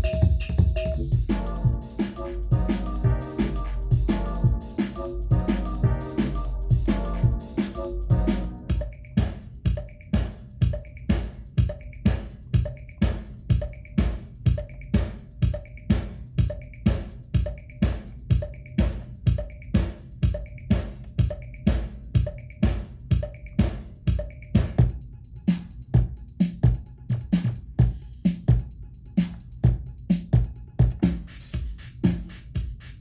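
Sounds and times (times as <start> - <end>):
kick drum thumps: 0.0 - 25.0, 25.9 - 32.7
drum machine sharp hits: 0.0 - 33.0.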